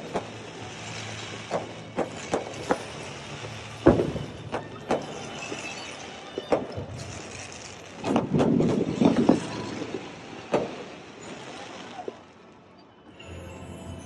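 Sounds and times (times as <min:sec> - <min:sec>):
fireworks bangs: 0:00.0 - 0:12.8.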